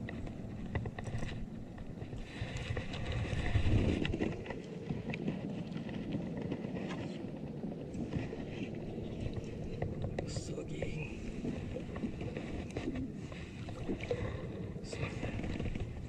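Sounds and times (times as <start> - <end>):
kayak gear clicks and knocks: 0.0 - 14.2
water lapping against kayak hull: 0.0 - 16.0
wind on microphone: 0.0 - 16.0.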